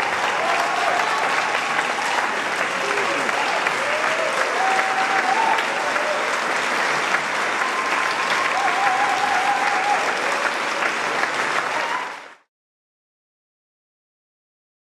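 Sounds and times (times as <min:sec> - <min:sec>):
crowd calls: 0:00.0 - 0:12.4
audience applauding: 0:00.0 - 0:12.5.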